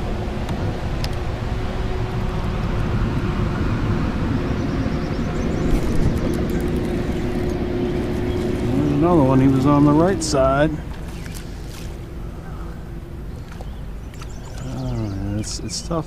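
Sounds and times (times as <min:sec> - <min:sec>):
electric trolling motor humming: 0:00.0 - 0:16.0.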